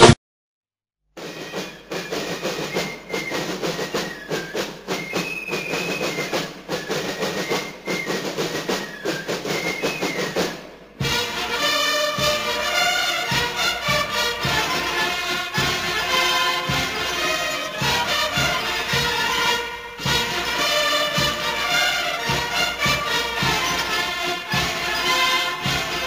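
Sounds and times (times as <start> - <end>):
band music: 1.2 - 26.0
flute melody: 1.2 - 26.0
marching band drums: 1.2 - 26.0.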